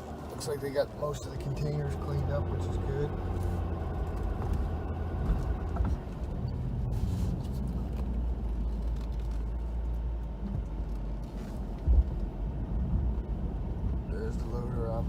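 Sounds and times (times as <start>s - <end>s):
pickup truck engine rumbling: 0.0s - 15.0s.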